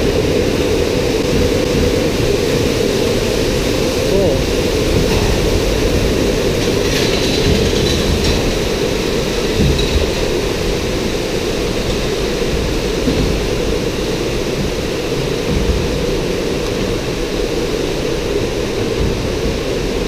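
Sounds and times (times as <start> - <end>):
log flume boat rushing along water: 0.0 - 20.0.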